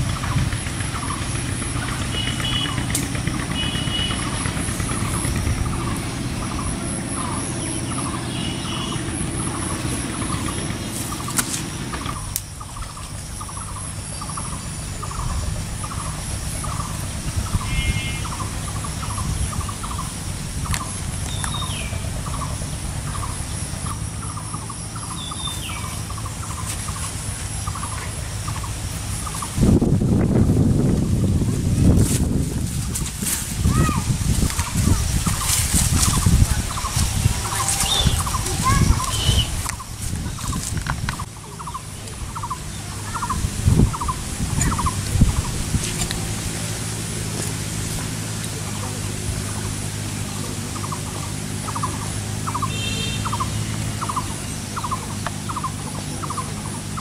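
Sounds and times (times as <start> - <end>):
bird chirps: 0.2 - 29.6, 34.6 - 45.6, 50.7 - 57.0.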